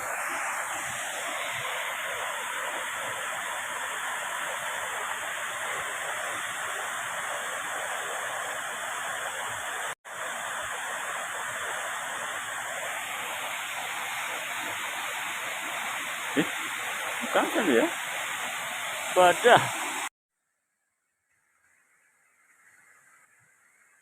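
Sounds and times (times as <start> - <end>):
waterfall rushing: 0.0 - 20.1.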